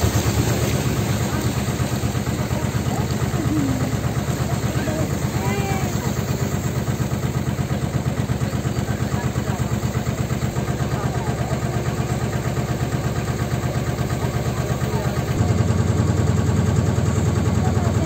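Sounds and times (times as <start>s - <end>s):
boat engine pulsing hum: 0.0s - 18.0s.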